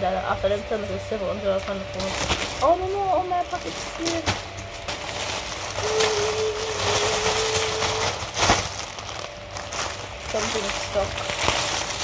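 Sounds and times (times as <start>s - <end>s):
packaging rustling and crinkling: 0.4s - 12.0s.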